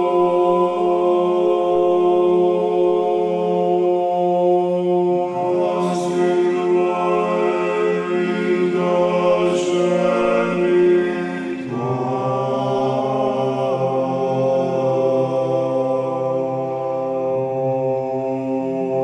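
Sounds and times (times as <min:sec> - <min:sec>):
voices singing a chant: 0:00.0 - 0:19.0.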